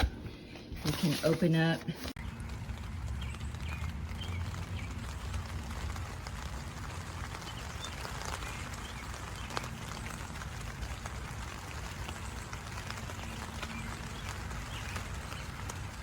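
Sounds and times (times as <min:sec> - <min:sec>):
tent fabric rustling: 0:00.7 - 0:16.0
low rumble: 0:02.1 - 0:16.0.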